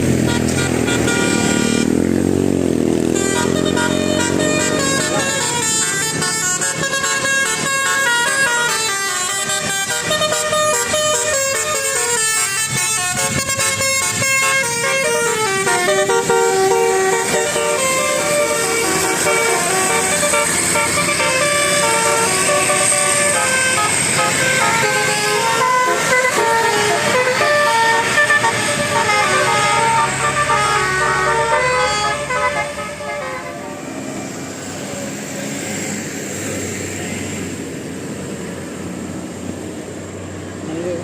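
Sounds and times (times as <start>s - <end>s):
multi-trumpet bus horn melody: 0.0s - 34.6s
vehicle engine and road noise: 0.0s - 41.0s.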